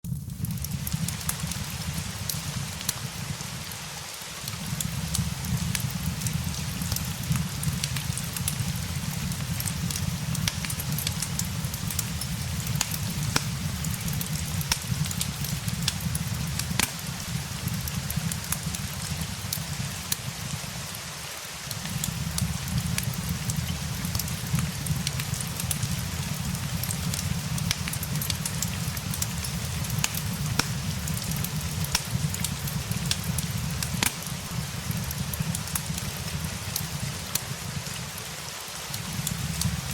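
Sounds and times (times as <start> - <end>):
fire crackling and popping: 0.0 - 39.9
steady rain hiss: 0.1 - 39.9.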